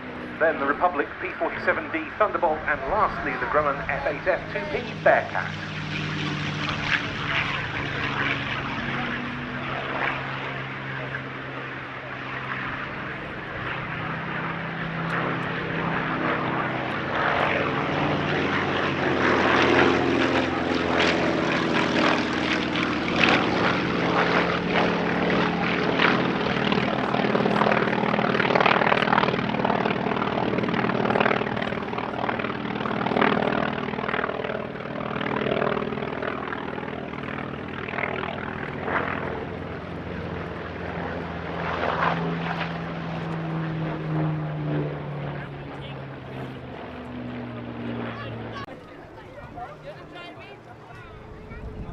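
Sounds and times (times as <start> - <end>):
propeller plane engine droning: 0.0 - 51.9.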